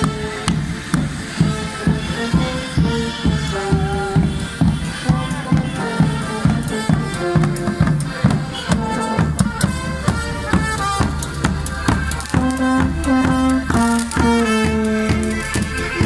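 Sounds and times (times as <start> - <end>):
steady drum beat: 0.0 - 16.0
street band playing: 0.0 - 16.0.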